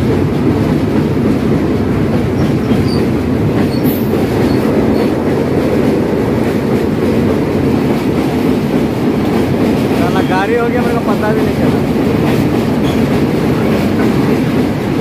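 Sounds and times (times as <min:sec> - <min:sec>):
freight train rumbling over bridge: 0:00.0 - 0:15.0.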